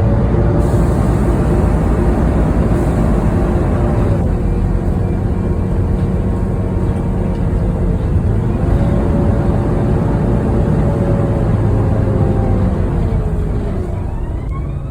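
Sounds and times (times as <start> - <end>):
bus cooling fan whine: 0.0 - 14.9
diesel engine rumble: 0.0 - 14.9.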